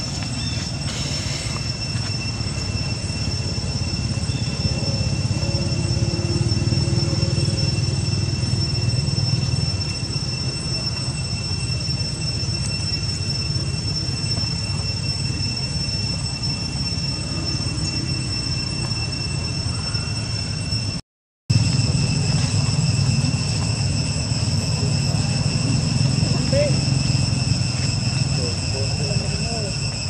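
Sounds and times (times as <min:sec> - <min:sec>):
high-pitched insect whine: 0:00.0 - 0:30.0.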